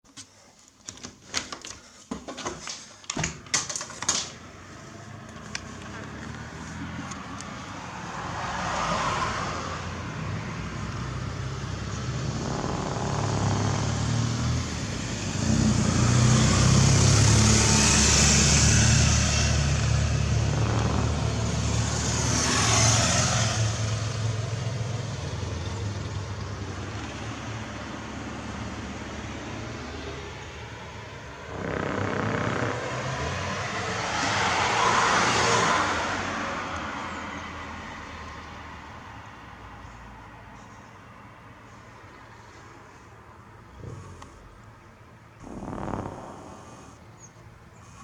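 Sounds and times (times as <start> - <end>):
vehicles swishing past: 4.3 - 48.0.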